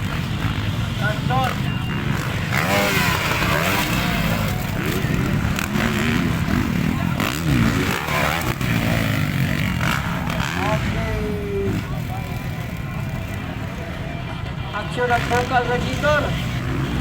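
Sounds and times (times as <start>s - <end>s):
motocross bike engines racing: 0.0s - 17.0s.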